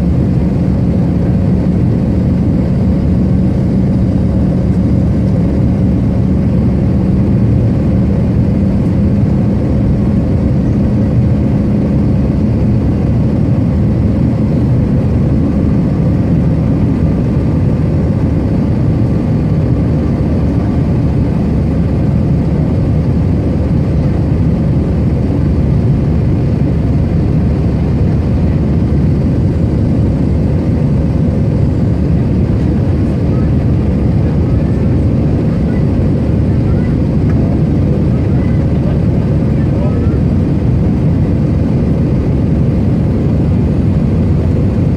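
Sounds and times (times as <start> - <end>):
jet engines and rushing air: 0.0 - 44.9
low hum: 0.0 - 44.9.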